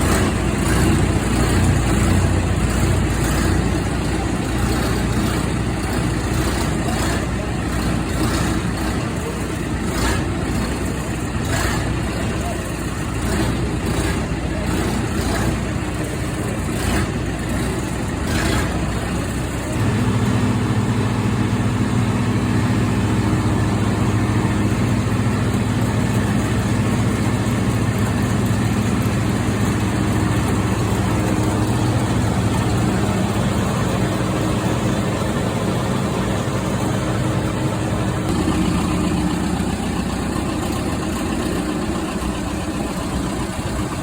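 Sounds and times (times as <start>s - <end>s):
combine harvester engine running: 0.0s - 44.0s.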